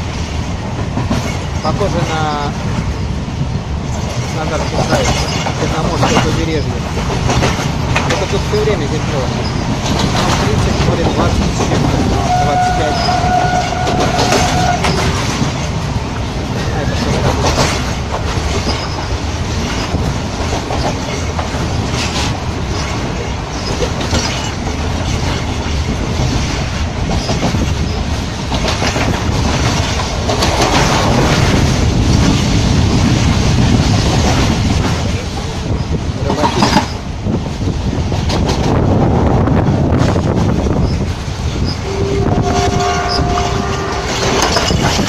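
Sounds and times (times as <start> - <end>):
wheels clacking over rail joints: 0.0 - 38.9, 39.7 - 45.0
train rumble and rattle: 0.0 - 45.0.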